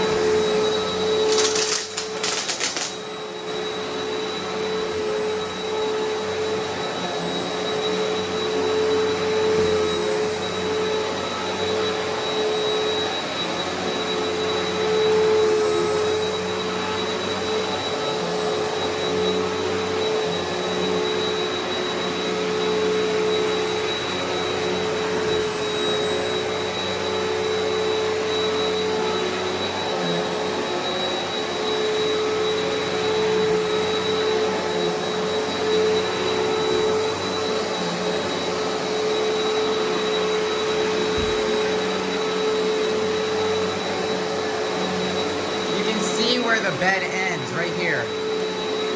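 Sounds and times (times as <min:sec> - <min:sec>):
vacuum cleaner running over carpet: 0:00.0 - 0:48.9.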